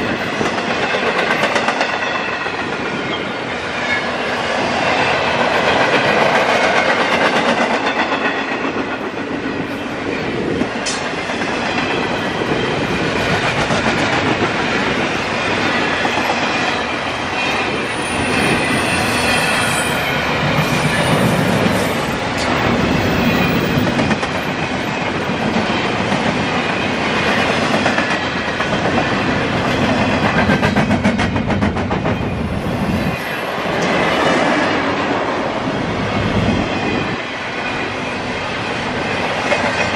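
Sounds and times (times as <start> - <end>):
train rolling past: 0.0 - 39.9.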